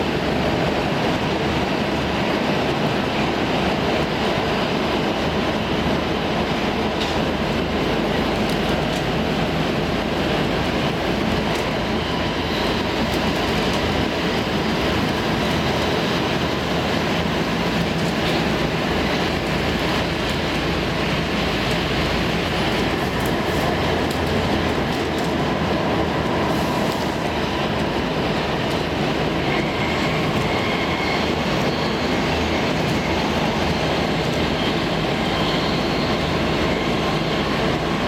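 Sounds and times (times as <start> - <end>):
wheels rumbling on rail: 0.0 - 38.0.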